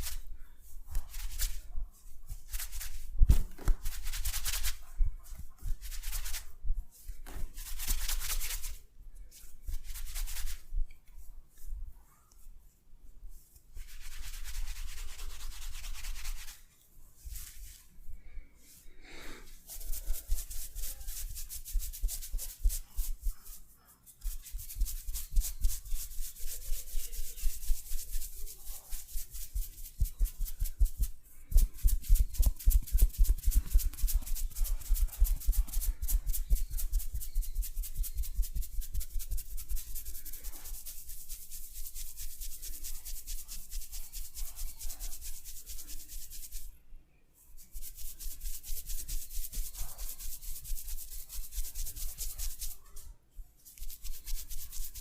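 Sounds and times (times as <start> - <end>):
hands rubbing hair: 0.0 - 46.7, 47.5 - 55.0.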